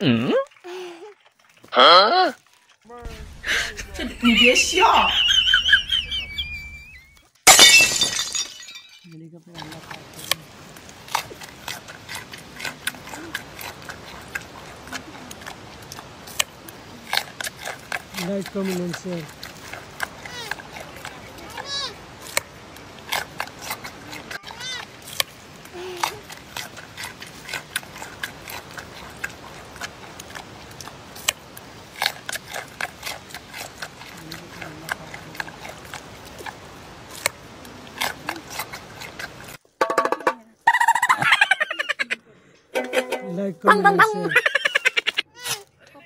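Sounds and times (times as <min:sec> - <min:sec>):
faint chewing: 0:00.0 - 0:07.4, 0:09.1 - 0:39.7, 0:43.6 - 0:46.0
carrot crunching: 0:00.0 - 0:39.8.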